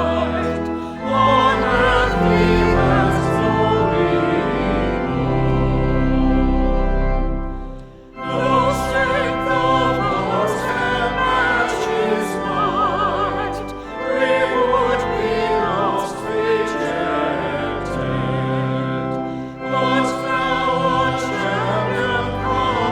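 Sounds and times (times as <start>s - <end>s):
voices singing with vibrato: 0.0s - 4.9s, 8.2s - 18.9s, 19.6s - 22.9s
organ-like accompaniment: 0.0s - 22.9s.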